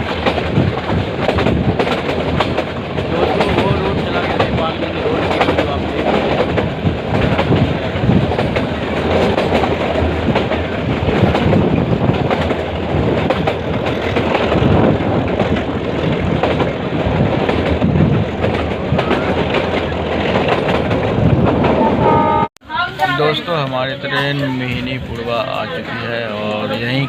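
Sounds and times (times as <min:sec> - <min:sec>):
wheels clacking over rails: 0:00.0 - 0:22.4
train coaches rumbling and rattling: 0:00.0 - 0:27.0.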